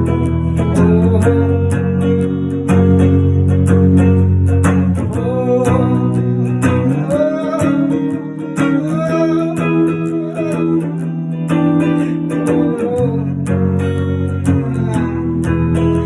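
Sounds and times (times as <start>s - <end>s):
strummed guitar chords: 0.0s - 16.0s
wavering guitar melody: 0.0s - 16.0s.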